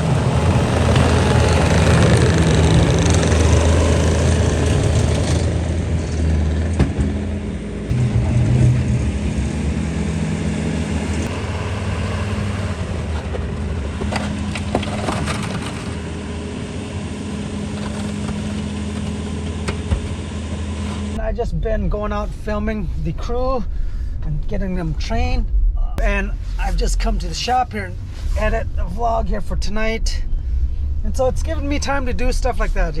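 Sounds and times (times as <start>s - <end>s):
vehicle engine rumbling: 0.0s - 33.0s.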